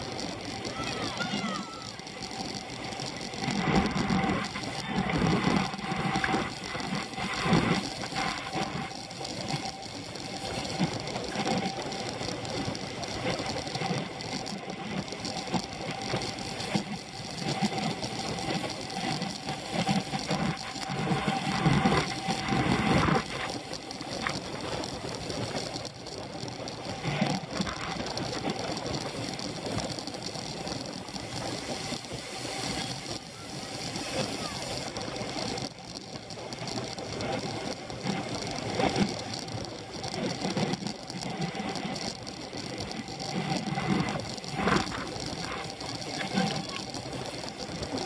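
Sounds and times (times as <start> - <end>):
bicycle drivetrain rattling and whirring: 0.0 - 48.0
road noise: 0.0 - 48.0.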